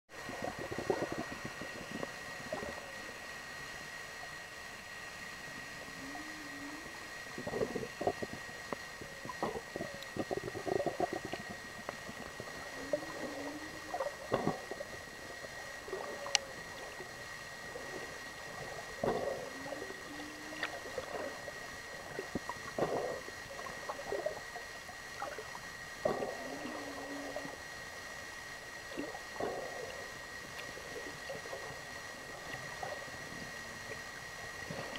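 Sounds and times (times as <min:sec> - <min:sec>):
steady high whine: 0:00.1 - 0:34.9
underwater bubbling and gurgling: 0:00.1 - 0:34.9
low wavering tone: 0:00.2 - 0:34.9.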